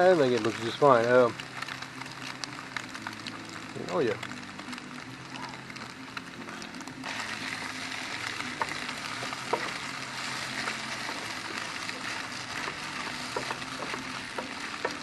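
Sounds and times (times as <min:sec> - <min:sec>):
crackling pops: 0:00.0 - 0:15.0
egg sizzling in a pan: 0:00.0 - 0:15.0.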